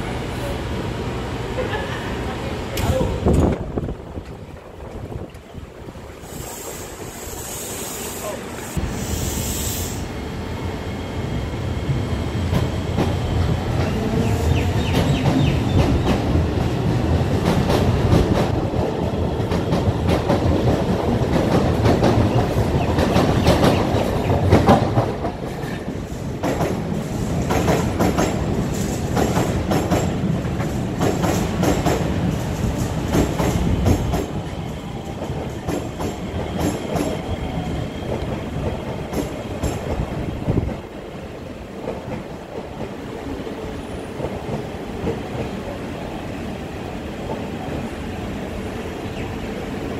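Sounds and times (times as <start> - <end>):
train wheels rumbling: 0.0 - 49.9.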